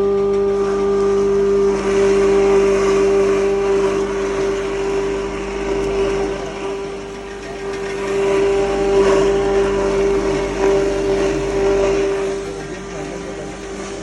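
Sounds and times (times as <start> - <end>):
feed grinder machine humming: 0.0 - 14.0
rushing grinding noise: 0.0 - 14.0.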